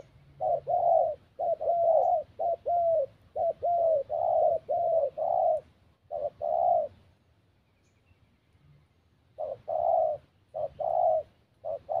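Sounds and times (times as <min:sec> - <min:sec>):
dove cooing: 0:00.0 - 0:07.1, 0:09.3 - 0:12.0.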